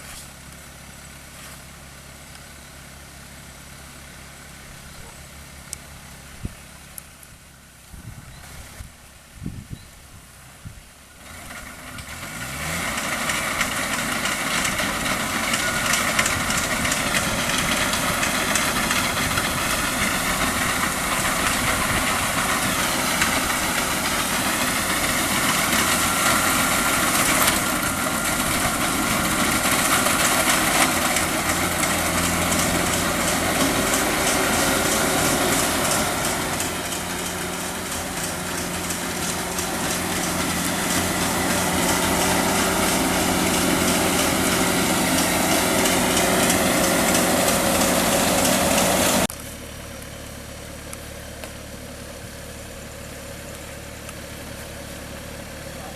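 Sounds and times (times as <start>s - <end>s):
combine harvester engine: 0.0s - 55.9s.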